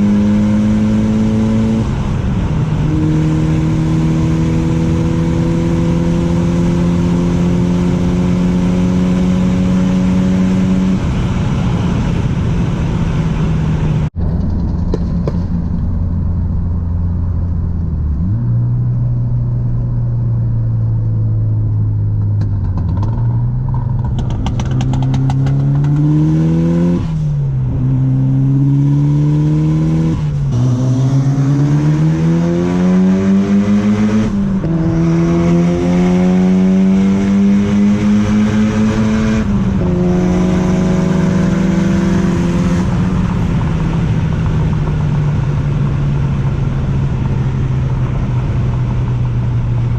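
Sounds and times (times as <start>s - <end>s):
car engine revving with gear changes: 0.0s - 16.0s, 17.6s - 20.3s, 21.1s - 49.9s.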